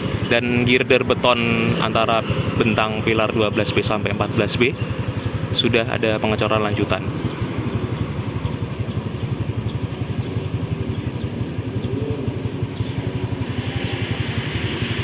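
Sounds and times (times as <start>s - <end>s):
motorcycle engine running: 0.0s - 15.0s
road noise: 0.0s - 15.0s.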